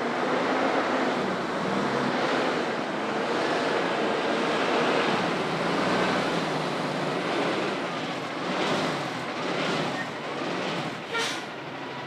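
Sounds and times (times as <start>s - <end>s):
truck diesel engine: 0.0s - 12.0s
tyres rolling on road: 0.0s - 12.0s.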